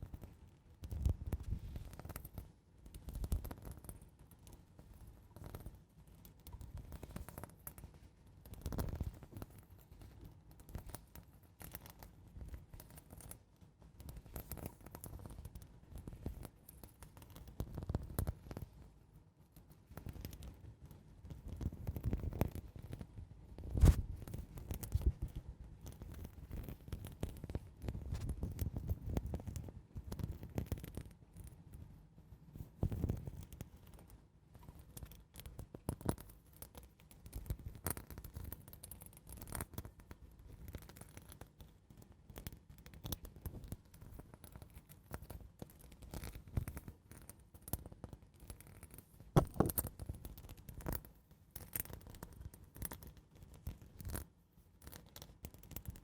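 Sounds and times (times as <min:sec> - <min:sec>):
soft scratching and scraping: 0:00.0 - 0:56.0.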